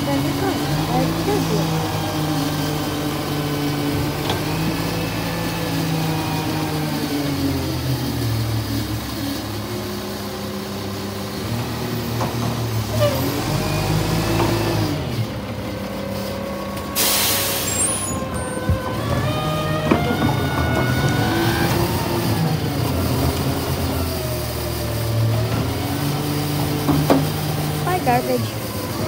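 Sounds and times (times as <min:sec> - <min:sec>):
garbage truck diesel engine: 0:00.0 - 0:29.0.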